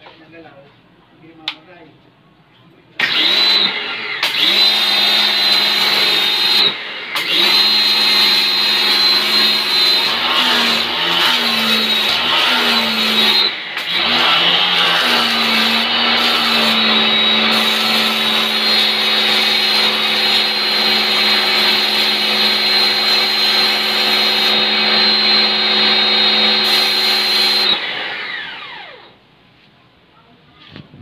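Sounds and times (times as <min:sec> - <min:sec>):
pressure washer motor whining: 0:03.0 - 0:29.2.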